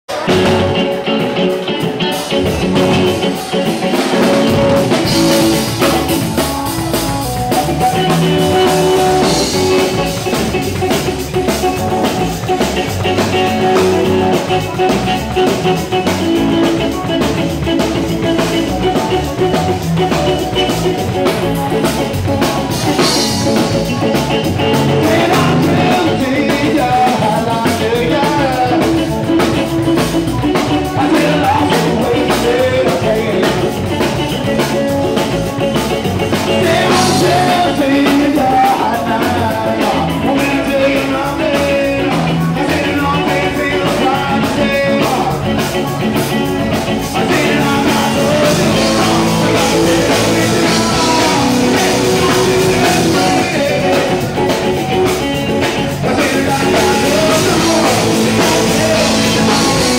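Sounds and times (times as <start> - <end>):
live band music: 0.1 - 59.9
person singing: 0.1 - 59.9
steady drum beat: 0.1 - 59.9.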